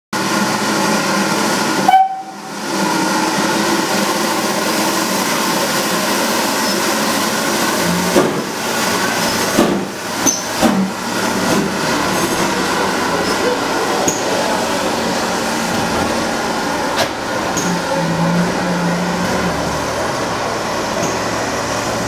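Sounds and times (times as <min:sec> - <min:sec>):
locomotive steam hissing: 0:00.2 - 0:22.0.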